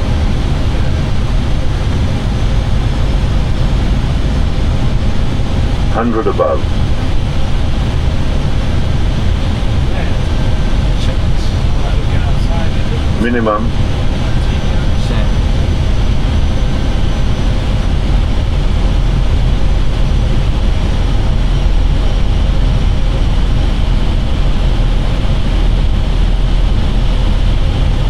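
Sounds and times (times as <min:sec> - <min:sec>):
aircraft engine low rumble: 0:00.0 - 0:28.0
cockpit airflow rush: 0:00.0 - 0:28.0.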